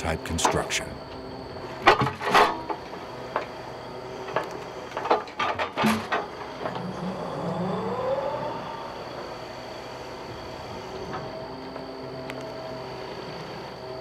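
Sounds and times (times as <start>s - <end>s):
loader hydraulics and engine hum: 0.0s - 14.0s.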